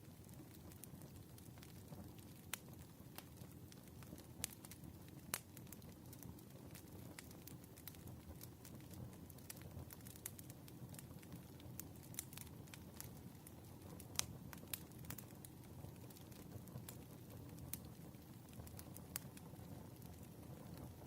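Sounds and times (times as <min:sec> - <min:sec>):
low steady fire hiss: 0:00.0 - 0:21.0
wood fire crackling and popping: 0:00.0 - 0:21.0.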